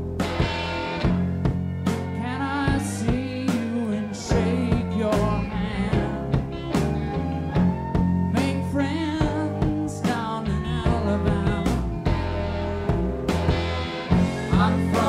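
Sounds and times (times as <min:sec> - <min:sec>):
song with guitar and drums: 0:00.0 - 0:15.0.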